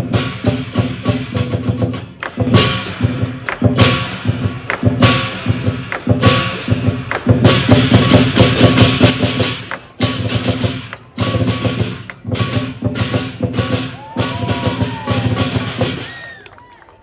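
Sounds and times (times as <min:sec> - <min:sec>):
large drum beating rapidly: 0:00.0 - 0:16.1.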